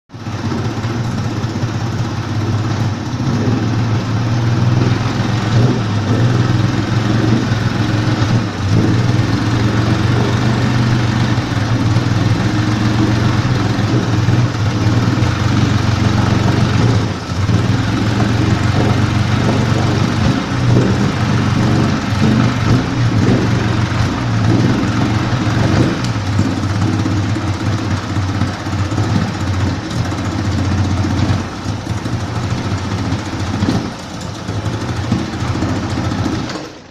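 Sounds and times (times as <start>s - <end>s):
outboard motor running: 0.1s - 36.9s.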